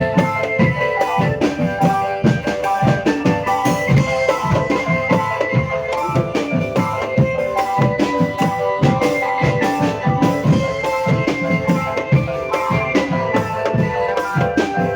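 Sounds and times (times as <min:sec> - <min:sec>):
busy steady drum beat: 0:00.0 - 0:14.9.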